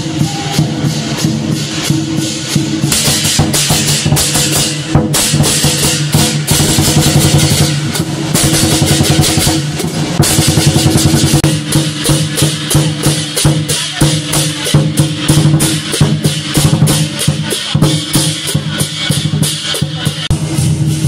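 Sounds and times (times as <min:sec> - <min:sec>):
cymbals clashing: 0:00.0 - 0:21.0
large drum beating fast: 0:00.0 - 0:21.0.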